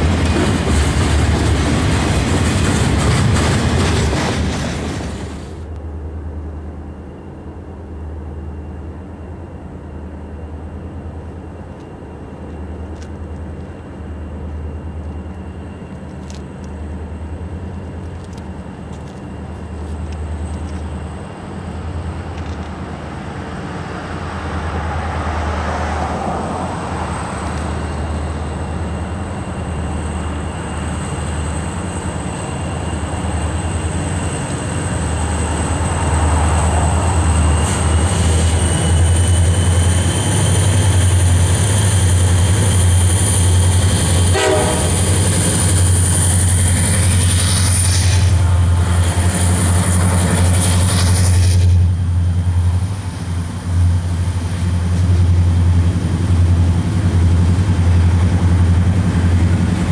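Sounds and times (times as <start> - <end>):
diesel locomotive engine throb: 10.2 - 59.9.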